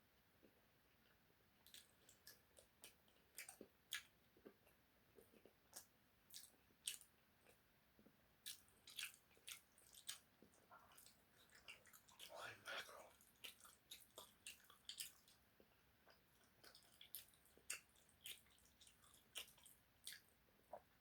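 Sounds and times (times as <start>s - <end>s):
person chewing food: 0.4s - 21.0s.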